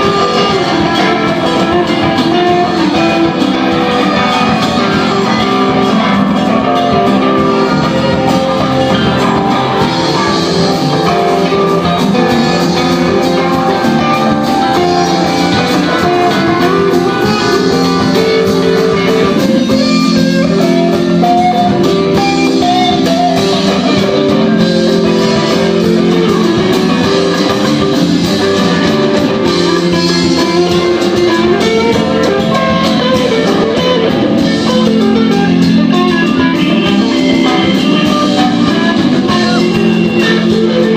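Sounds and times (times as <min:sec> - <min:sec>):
guitar: 0:00.0 - 0:40.9
live band playing: 0:00.0 - 0:40.9.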